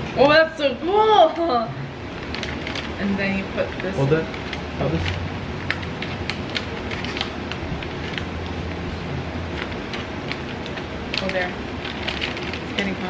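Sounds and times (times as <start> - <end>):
ration heater fizzing: 0.2 - 13.0.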